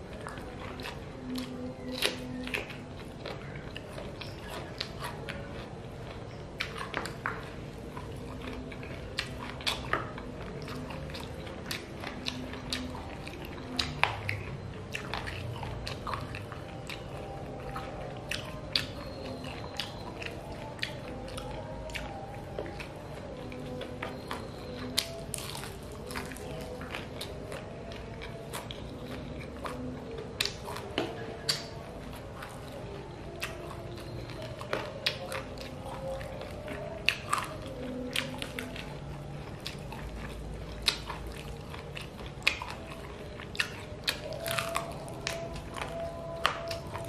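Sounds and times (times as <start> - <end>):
person chewing wetly: 0.0 - 47.0.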